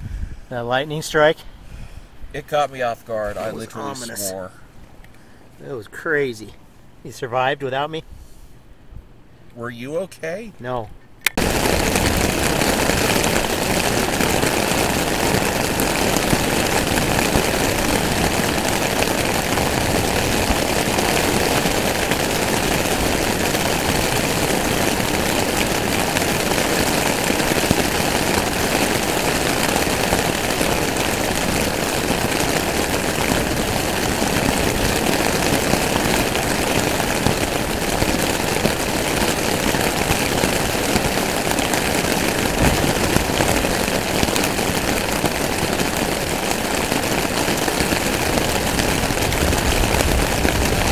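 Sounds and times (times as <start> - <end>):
heavy rain pouring: 2.4 - 5.4, 11.4 - 50.9.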